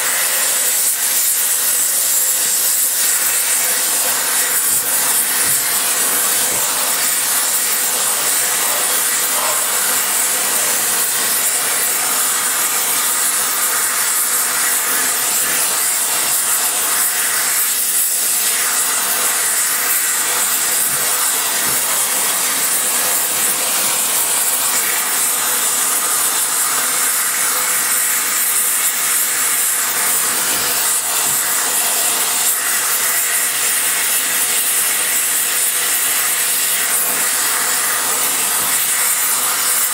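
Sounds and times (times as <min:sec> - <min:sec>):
torch flame hissing: 0:00.0 - 0:39.9.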